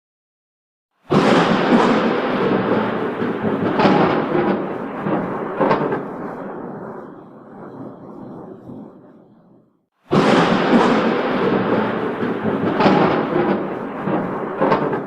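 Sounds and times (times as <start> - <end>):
sharp thunder cracks: 1.0 - 15.0
thunder rumbling: 1.0 - 15.0.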